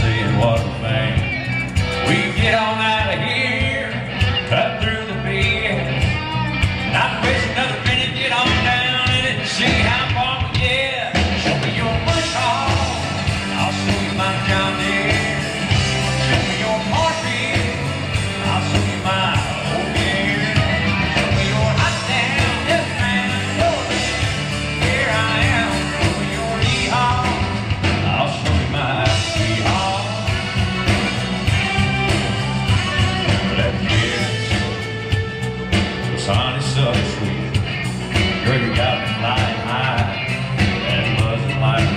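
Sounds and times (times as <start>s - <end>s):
person singing: 0.0s - 37.6s, 38.3s - 41.9s
live country band playing: 0.0s - 41.9s.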